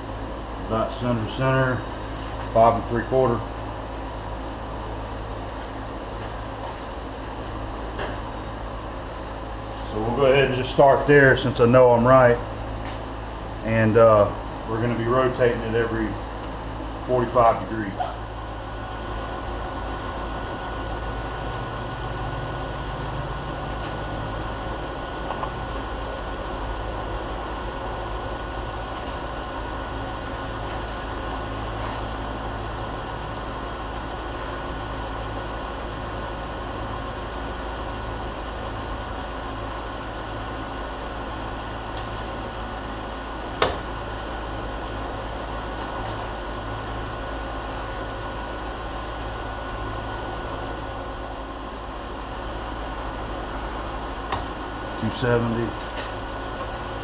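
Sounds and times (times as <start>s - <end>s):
milling machine running: 0.0s - 57.0s.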